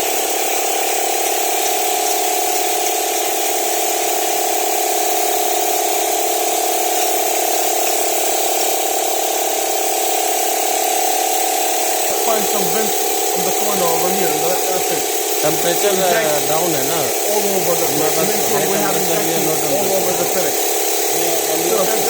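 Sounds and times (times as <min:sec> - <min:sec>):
machinery hum with flutter: 0:00.0 - 0:22.0.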